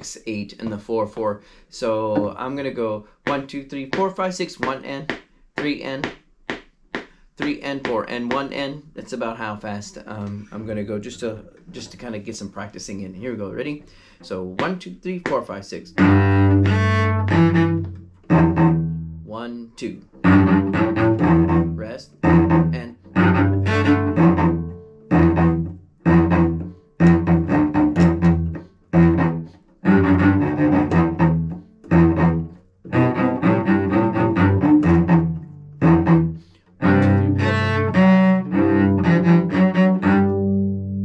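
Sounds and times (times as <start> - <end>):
solo cello playing: 0.0 - 6.1, 12.9 - 41.0.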